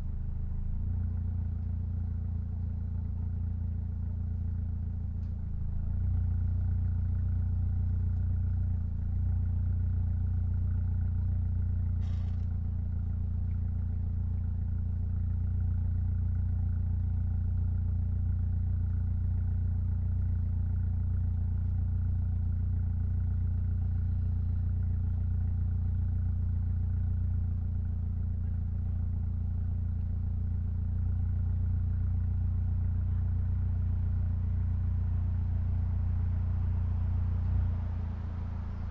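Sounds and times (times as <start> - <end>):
car engine droning steadily: 0.0 - 38.9.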